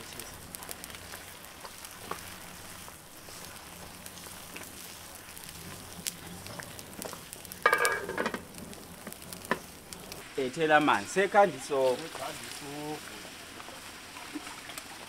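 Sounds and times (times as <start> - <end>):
porridge boiling and bubbling: 0.0 - 15.0
wood fire crackling: 0.0 - 15.0.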